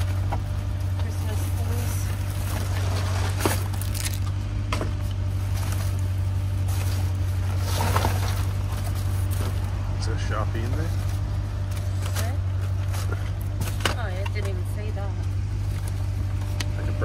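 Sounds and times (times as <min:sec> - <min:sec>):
items handled in a dumpster: 0:00.0 - 0:17.0
low mechanical hum: 0:00.0 - 0:17.0.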